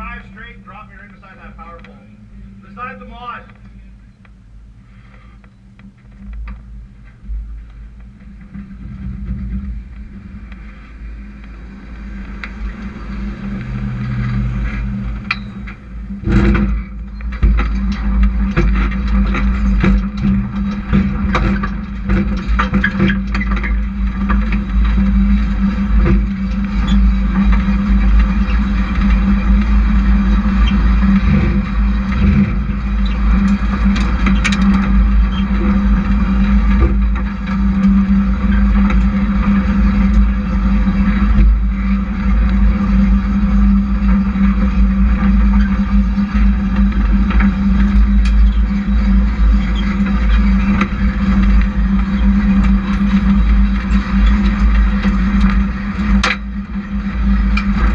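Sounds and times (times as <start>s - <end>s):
race truck engines droning: 0.0s - 57.9s.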